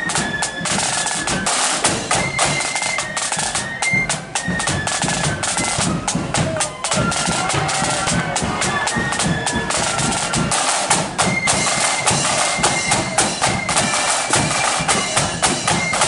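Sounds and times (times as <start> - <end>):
flutes playing high melody: 0.0 - 16.0
snare drums beating: 0.0 - 16.0.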